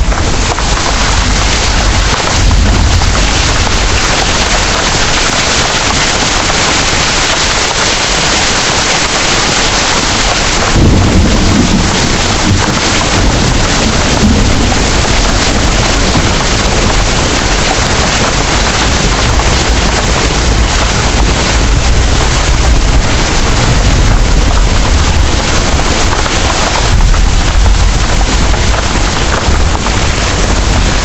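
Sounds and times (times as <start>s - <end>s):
low rumble: 0.0s - 5.4s, 10.6s - 31.0s
heavy rain pouring: 0.0s - 31.0s.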